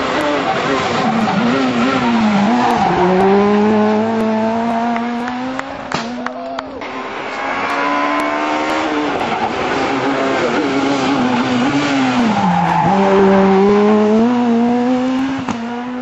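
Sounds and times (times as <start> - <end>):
rally car engine at high revs: 0.0 - 16.0
tyres skidding: 0.0 - 16.0.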